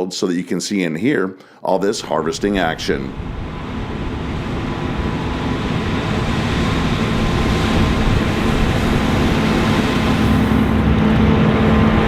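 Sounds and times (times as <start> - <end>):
combine harvester drone: 1.8 - 12.0
thin steady whine: 1.8 - 12.0.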